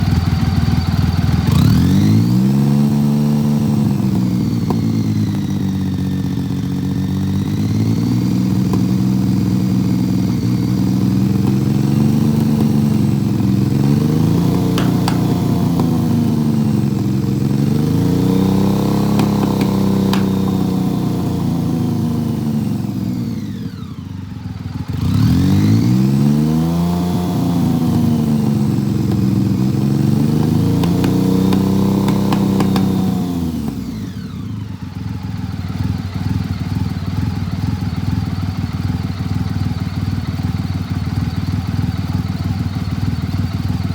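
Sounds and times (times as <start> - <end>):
motorcycle engine misfiring and revving: 0.0 - 43.9.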